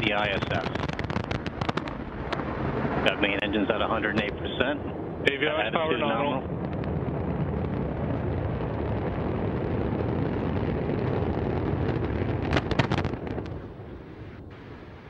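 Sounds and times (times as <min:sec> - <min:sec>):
sharp cracks: 0:00.0 - 0:04.5, 0:06.5 - 0:15.0
deep rumble of rocket explosion: 0:00.0 - 0:15.0.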